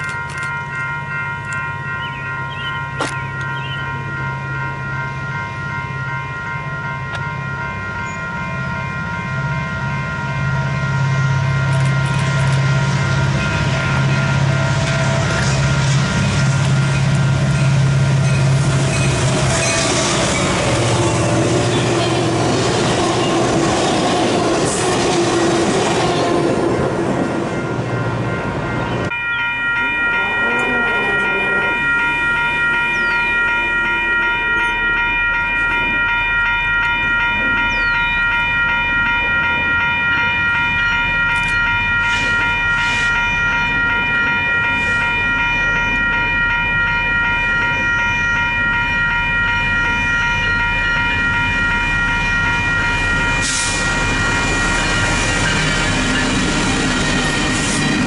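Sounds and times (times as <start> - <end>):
crossing warning bell ringing: 0.0 - 58.0
railcars rolling on rails: 0.0 - 58.0
train low rumble: 0.0 - 58.0.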